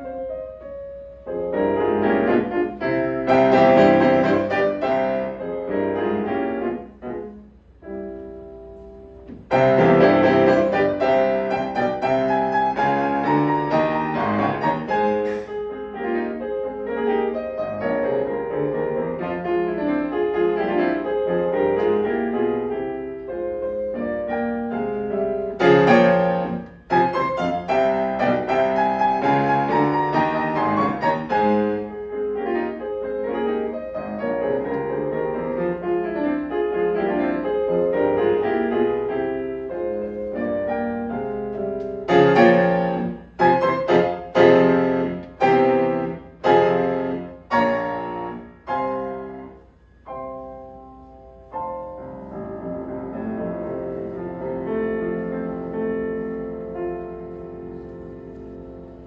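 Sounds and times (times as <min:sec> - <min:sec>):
solo classical piano: 0:00.0 - 0:59.0.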